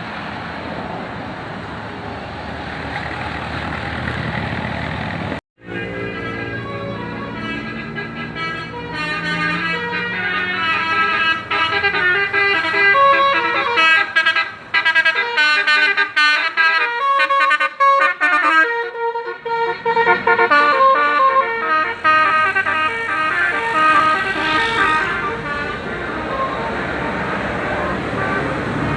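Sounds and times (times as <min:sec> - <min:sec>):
bus horn playing a tune: 0:05.6 - 0:28.9.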